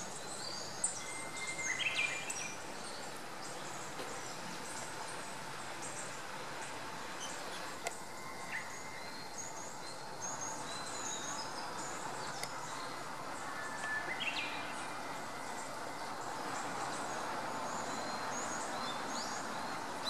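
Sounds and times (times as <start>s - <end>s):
bush warbler whistling song: 0.0s - 4.8s, 7.2s - 20.0s
steady background hiss: 0.0s - 20.0s.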